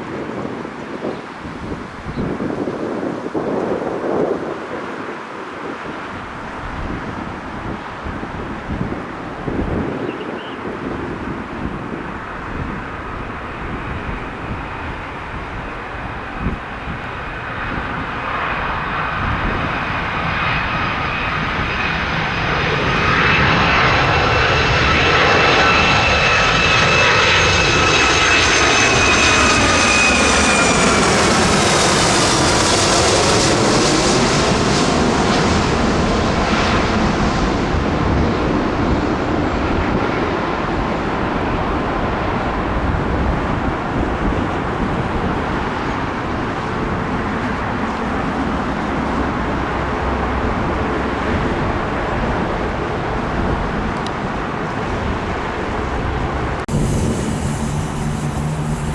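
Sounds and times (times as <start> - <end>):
jet airliner passing overhead: 0.0 - 58.9.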